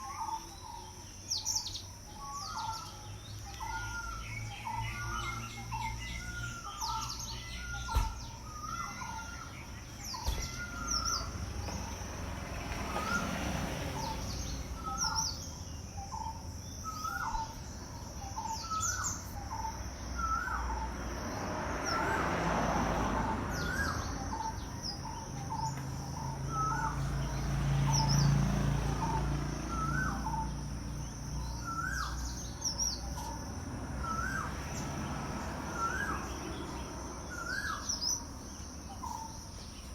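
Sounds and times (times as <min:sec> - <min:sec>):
higher bird chirps: 0:00.0 - 0:39.9.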